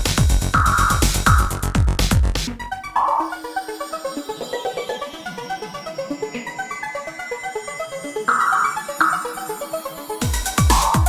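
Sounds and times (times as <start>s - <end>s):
synthesizer arpeggio: 0.4s - 2.0s, 2.7s - 11.0s.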